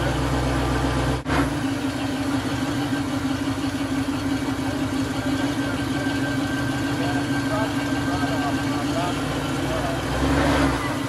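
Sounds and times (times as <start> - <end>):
off-road engine idling: 0.0 - 11.0.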